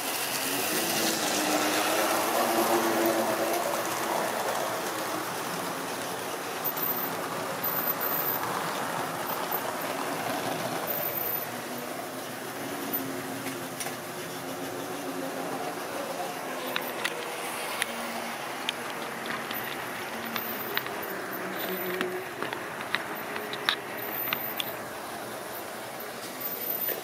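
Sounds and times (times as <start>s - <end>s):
model train running on track: 0.0s - 27.0s.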